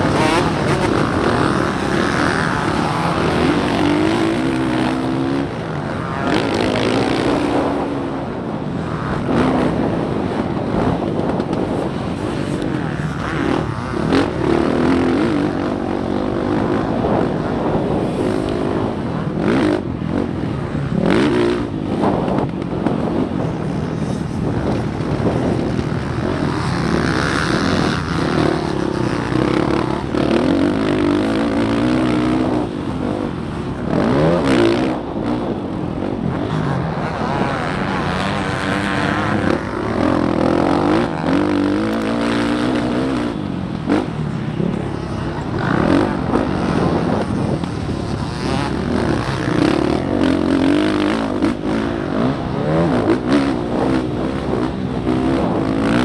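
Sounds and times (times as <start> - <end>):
motocross bike engine revving: 0.0 - 22.2, 24.0 - 56.0.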